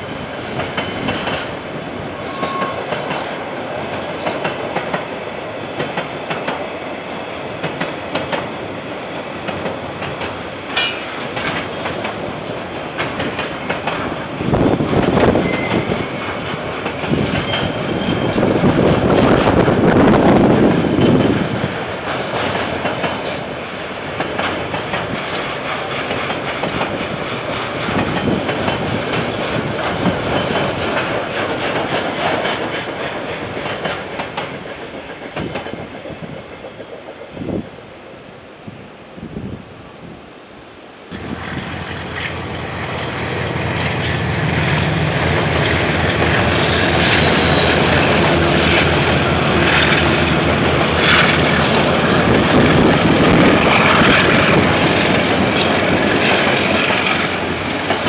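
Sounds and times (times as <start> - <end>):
train wheels on rails: 0.0 - 40.2, 41.0 - 58.0.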